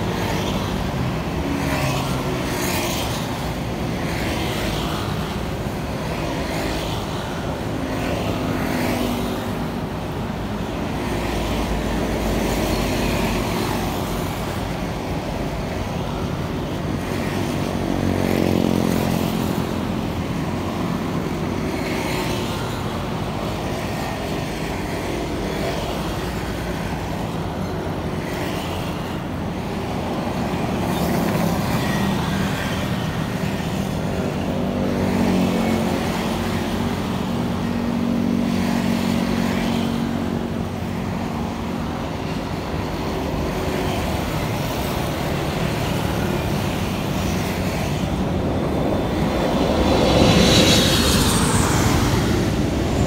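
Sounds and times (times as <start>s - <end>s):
scooters and cars passing: 0.0s - 53.0s.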